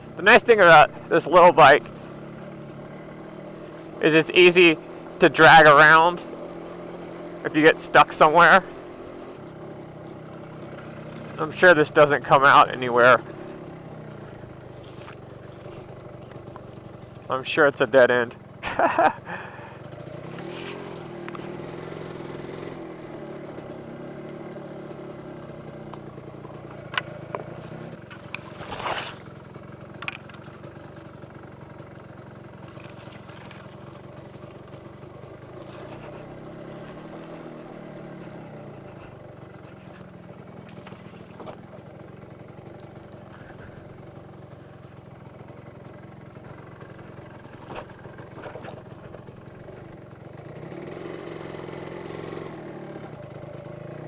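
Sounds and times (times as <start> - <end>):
two-stroke motorcycle engine: 0.0 - 54.0.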